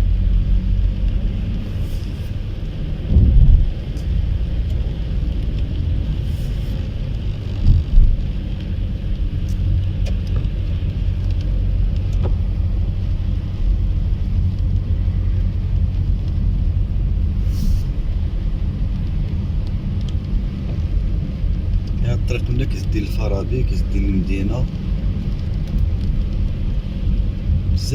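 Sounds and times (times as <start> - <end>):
car engine and tyre rumble: 0.0 - 27.9.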